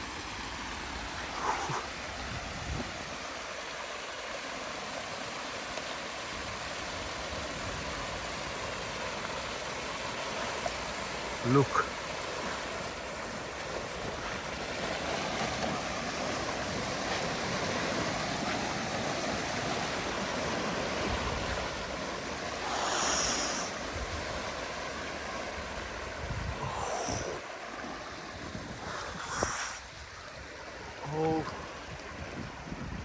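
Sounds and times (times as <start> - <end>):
water rushing through dam breach: 0.0 - 33.0.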